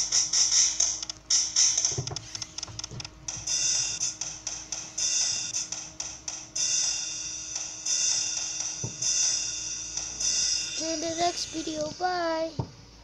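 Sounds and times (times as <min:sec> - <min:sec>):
drum app cymbal and hi-hat taps: 0:00.0 - 0:02.1, 0:03.3 - 0:12.1.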